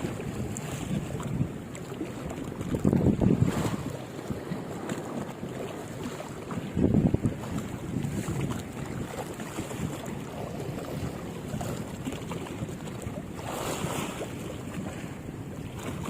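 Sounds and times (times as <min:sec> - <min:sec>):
small sea waves: 0:00.0 - 0:16.0
wind buffeting microphone: 0:00.0 - 0:16.0.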